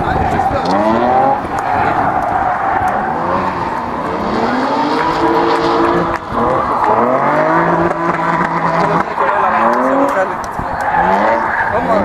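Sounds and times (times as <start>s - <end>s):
car engine revving hard: 0.0s - 12.0s
tyres spinning and skidding: 0.0s - 12.0s.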